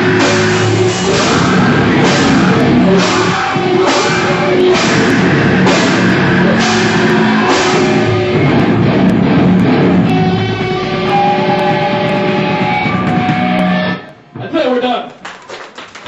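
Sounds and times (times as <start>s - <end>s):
electric guitar chords ringing: 0.0s - 14.3s
rock band playing loud: 0.0s - 14.6s.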